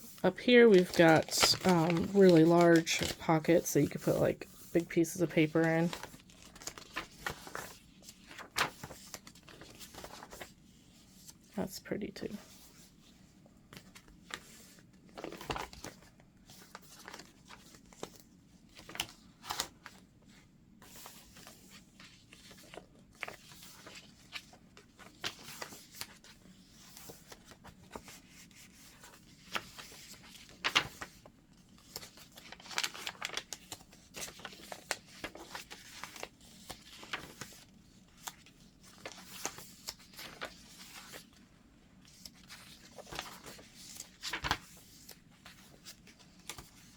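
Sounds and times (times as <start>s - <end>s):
paper pages rustling and crinkling: 0.0s - 11.6s, 12.4s - 46.9s.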